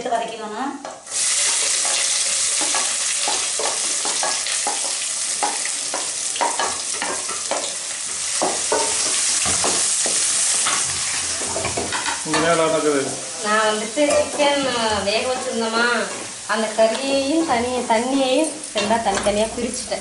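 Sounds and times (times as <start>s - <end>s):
onions sizzling in hot oil: 0.4s - 20.0s.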